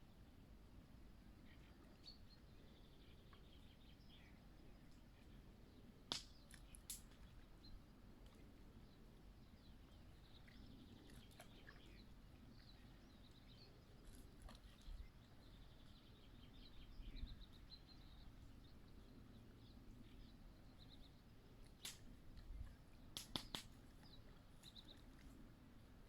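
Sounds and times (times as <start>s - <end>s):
low outdoor background hum: 0.0s - 26.0s
songbirds chirping and trilling: 1.2s - 26.0s.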